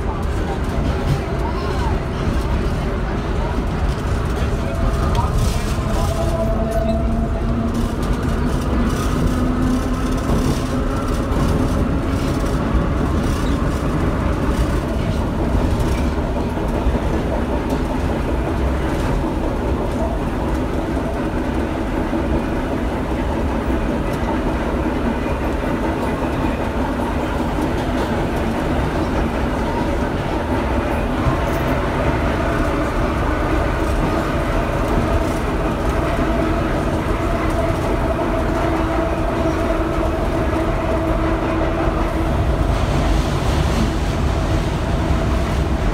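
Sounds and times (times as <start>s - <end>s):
subway wheel and rail noise: 0.0s - 45.9s.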